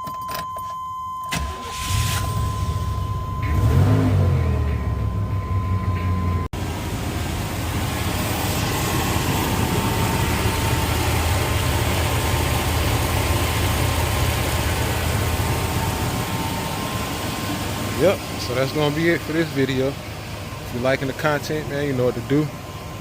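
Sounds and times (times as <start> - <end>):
truck engine idling: 1.4 - 23.0.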